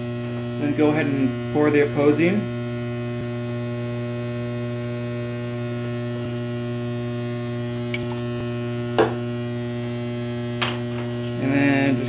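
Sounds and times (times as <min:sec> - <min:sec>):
vibrator machine humming: 0:00.0 - 0:12.0.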